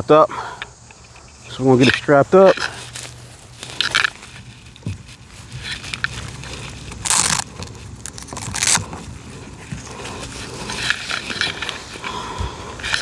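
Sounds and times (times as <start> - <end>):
strap rustling and scraping: 0.8 - 13.0.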